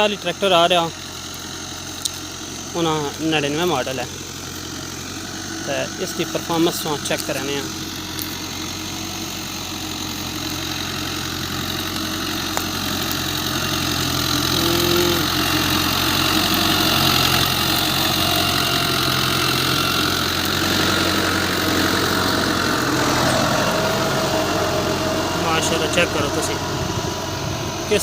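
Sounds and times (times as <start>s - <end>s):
tractor diesel engine: 0.0s - 28.0s.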